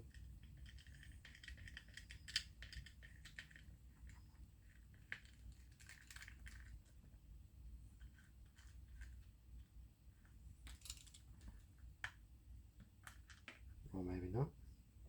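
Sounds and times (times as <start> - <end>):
faint clicks of small parts: 0.0 - 13.8.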